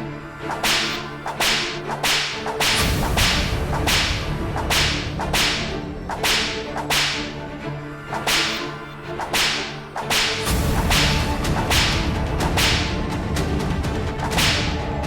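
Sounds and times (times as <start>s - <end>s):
whip-like swishing strokes: 0.5s - 7.4s, 8.1s - 13.1s, 14.2s - 14.8s.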